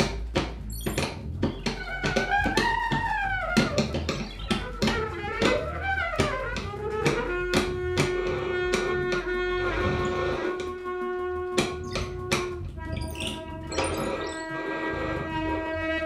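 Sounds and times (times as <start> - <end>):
improvised experimental music: 0.0 - 16.0.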